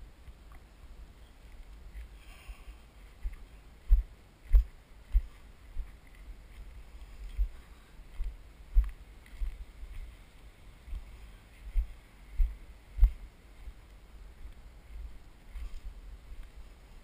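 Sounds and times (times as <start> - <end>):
footsteps on grass: 1.8 - 17.0.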